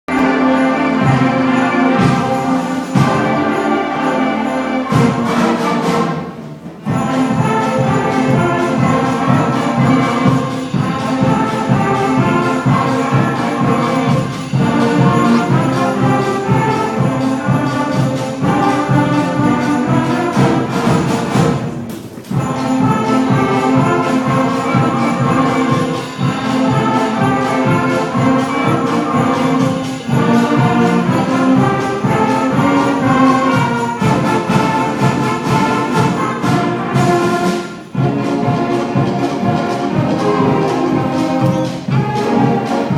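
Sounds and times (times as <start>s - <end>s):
instrumental ensemble playing: 0.0s - 42.9s
sleigh bells jingling: 0.1s - 5.8s, 6.8s - 38.4s.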